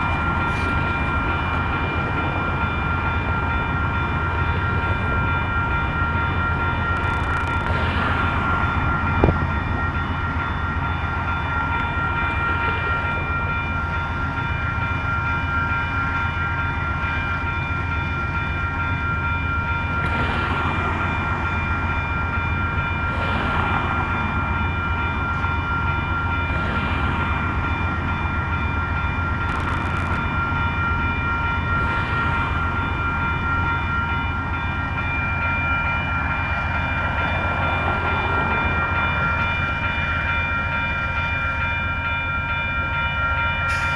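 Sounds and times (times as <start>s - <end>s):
diesel locomotive idling: 0.0s - 43.9s.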